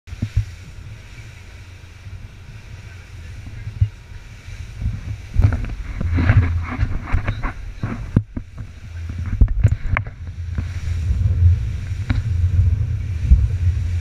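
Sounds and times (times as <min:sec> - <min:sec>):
boat hull slapping waves: 0:00.1 - 0:14.0
wind buffeting microphone: 0:00.1 - 0:14.0.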